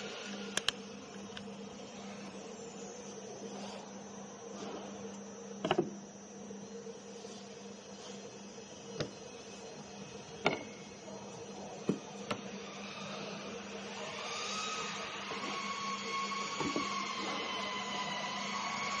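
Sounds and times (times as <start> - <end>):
motor whine with hiss: 0.0 - 19.0
steady machine hum: 0.0 - 19.0.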